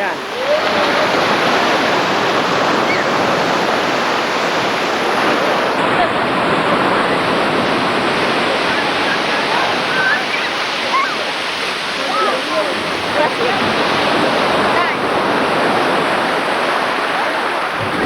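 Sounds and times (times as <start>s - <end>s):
faint distant voices: 0.0s - 18.0s
sea surf rushing: 0.0s - 18.0s.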